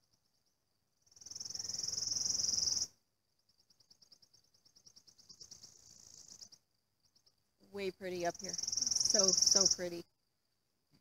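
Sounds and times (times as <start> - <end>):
insect trilling: 1.0 - 10.1.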